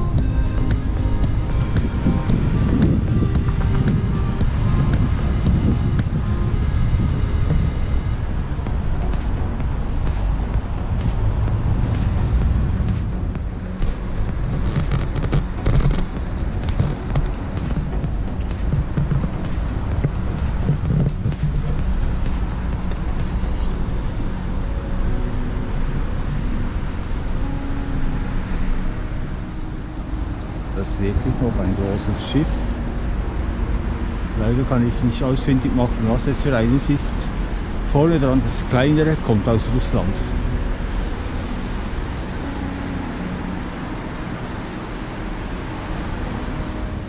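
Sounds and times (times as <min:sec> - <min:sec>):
distant traffic: 0:00.0 - 0:47.0
low outdoor rumble: 0:00.0 - 0:47.0
wind: 0:00.0 - 0:47.0.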